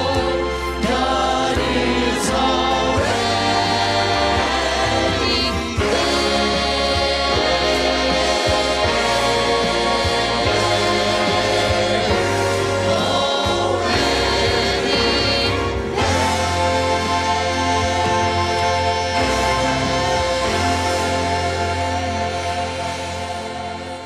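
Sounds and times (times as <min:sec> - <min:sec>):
instrumental accompaniment: 0:00.0 - 0:24.0
steady bass line: 0:00.0 - 0:24.0
vocal trio singing in harmony: 0:00.0 - 0:24.0.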